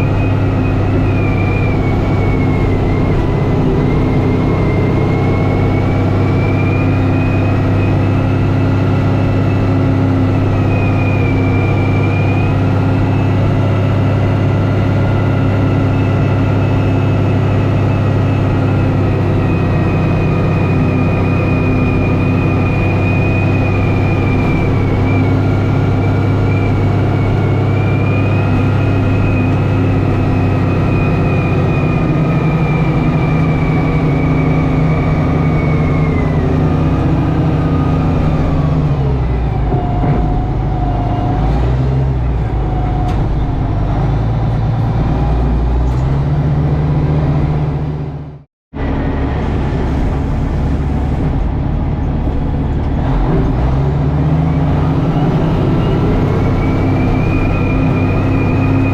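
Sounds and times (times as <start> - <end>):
high whine: 0.0 - 58.9
tractor engine running: 0.0 - 58.9.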